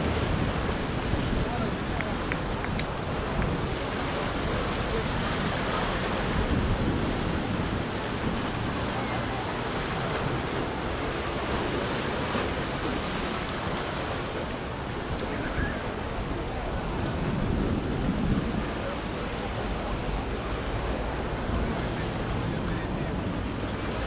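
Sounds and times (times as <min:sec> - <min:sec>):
sea surf: 0:00.0 - 0:24.0
wind on microphone: 0:00.0 - 0:24.0.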